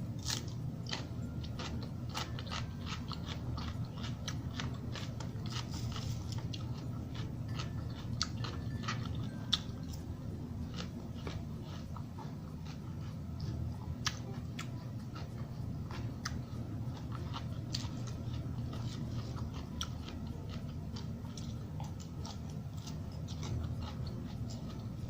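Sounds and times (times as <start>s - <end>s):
person chewing crunchy salad: 0.0s - 25.0s.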